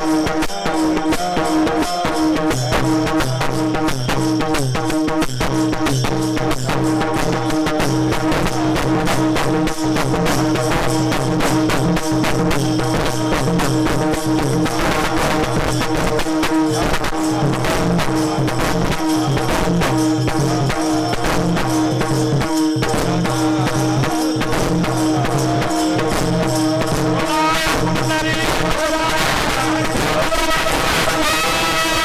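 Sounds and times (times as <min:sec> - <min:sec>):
rhythmic percussion: 0:00.0 - 0:32.0.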